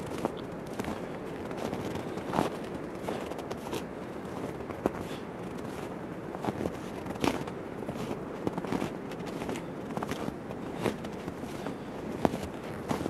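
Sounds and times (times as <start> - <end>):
footsteps crunching in snow: 0.0 - 13.0
steady background hiss: 0.0 - 13.0.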